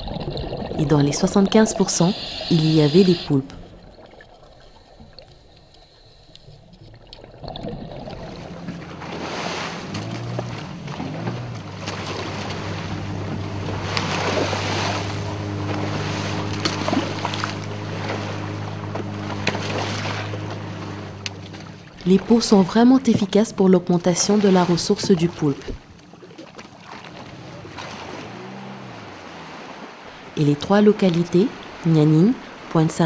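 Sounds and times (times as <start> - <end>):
boat motor humming: 0.0 - 33.0
water rushing along a hull: 0.0 - 33.0.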